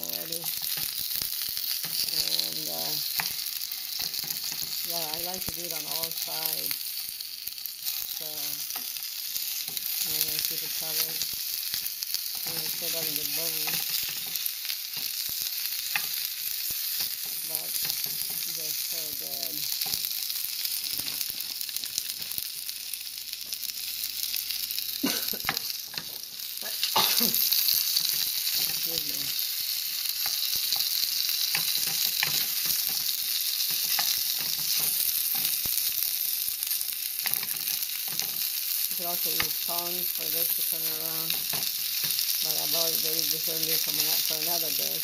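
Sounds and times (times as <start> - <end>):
dumplings sizzling in oil: 0.0 - 45.0.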